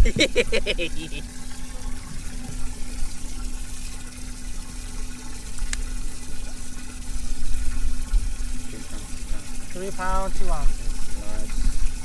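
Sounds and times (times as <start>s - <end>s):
pump humming: 0.0s - 12.0s
water running and splashing: 0.0s - 12.0s.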